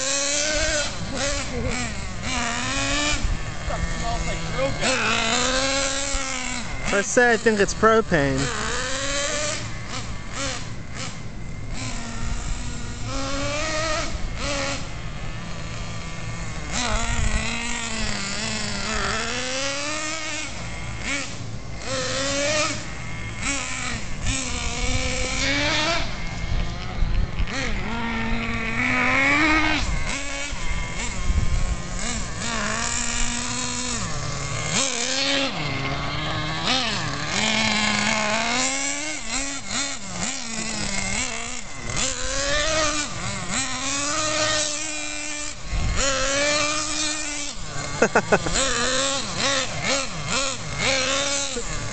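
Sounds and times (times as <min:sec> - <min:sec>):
nitro rc car engine revving: 0:00.0 - 0:51.9.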